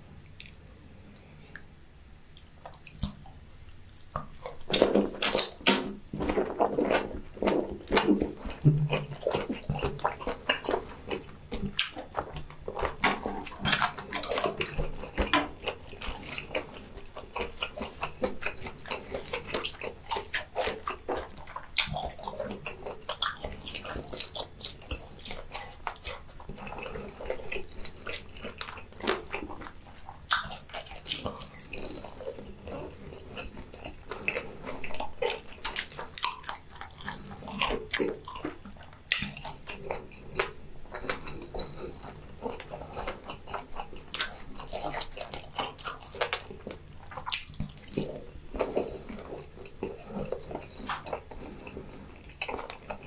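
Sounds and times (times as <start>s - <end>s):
person chewing food wetly: 0.0s - 53.0s.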